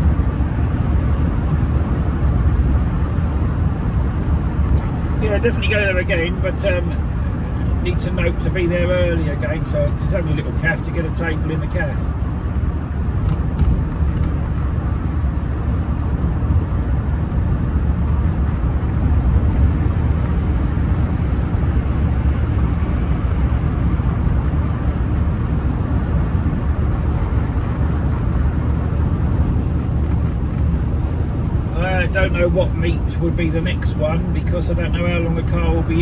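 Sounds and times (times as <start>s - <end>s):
car engine rumble: 0.0s - 36.0s
road noise: 0.0s - 36.0s.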